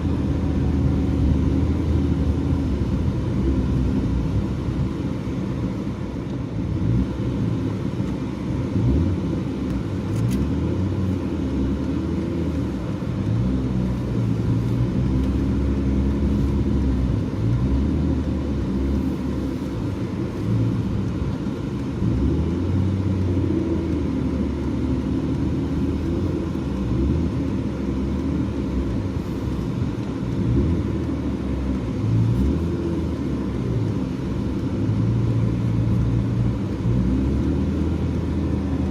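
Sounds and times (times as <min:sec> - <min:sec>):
car engine revving: 0:00.0 - 0:38.9
road noise: 0:00.0 - 0:38.9.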